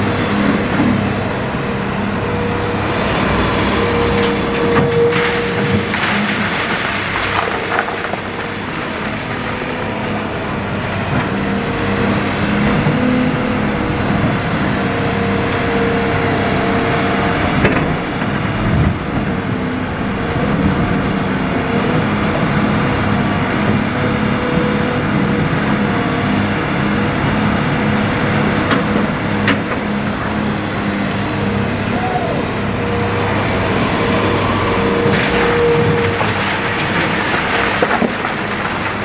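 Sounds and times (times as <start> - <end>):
excavator diesel engine: 0.0 - 23.7, 26.6 - 38.6.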